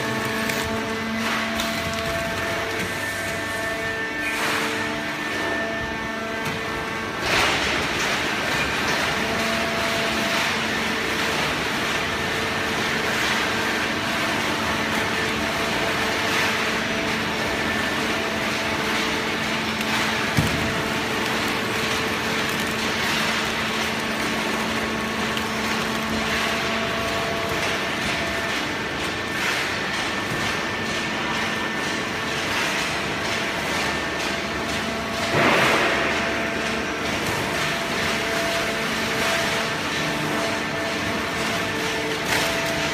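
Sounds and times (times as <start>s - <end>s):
hydraulic baler machine hum: 0.0s - 42.9s.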